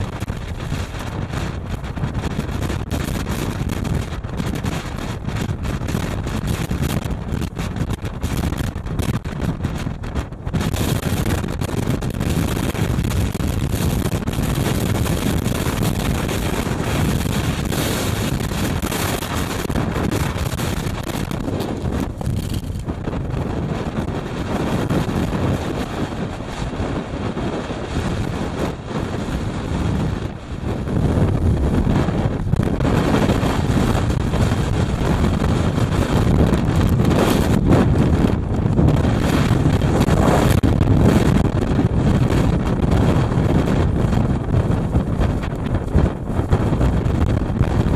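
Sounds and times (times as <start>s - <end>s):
wind blowing against microphone: 0.0s - 47.9s.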